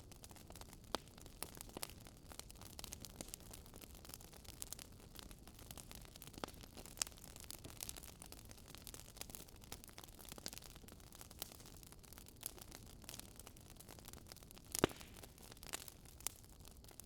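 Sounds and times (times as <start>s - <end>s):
wood fire popping and snapping: 0.0s - 17.0s.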